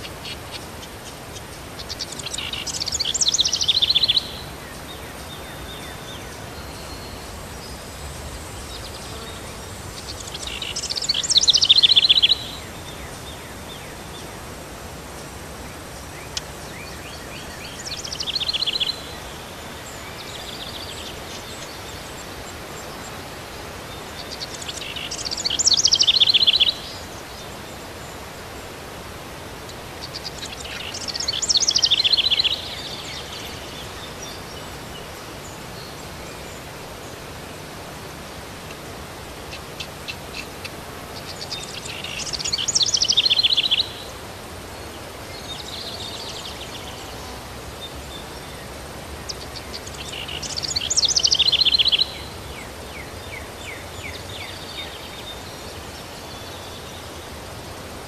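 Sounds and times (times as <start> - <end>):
songbird singing: 0.0 - 58.0
steady outdoor hiss: 0.0 - 58.0.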